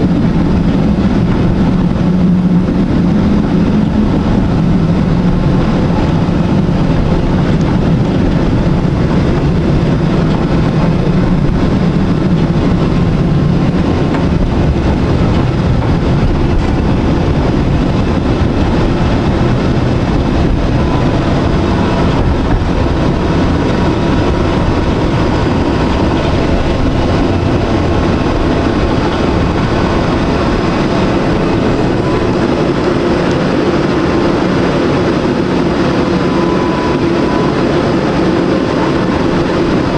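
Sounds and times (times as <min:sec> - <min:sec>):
faint high whine: 0:00.0 - 0:39.9
tram wheels and motor rumbling: 0:00.0 - 0:39.9.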